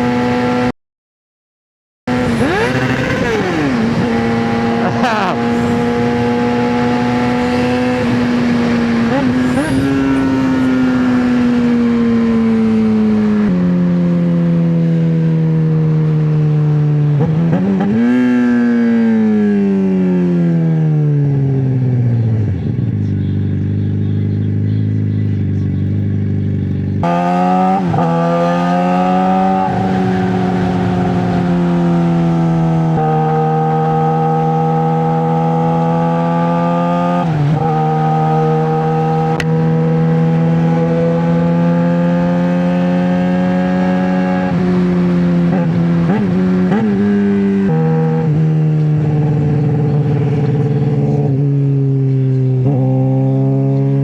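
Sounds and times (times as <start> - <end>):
motorcycle engine revving: 2.1 - 54.0.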